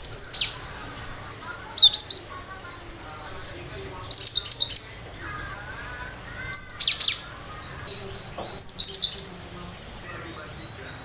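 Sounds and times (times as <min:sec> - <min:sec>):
faint lower chirping: 0:00.0 - 0:11.0.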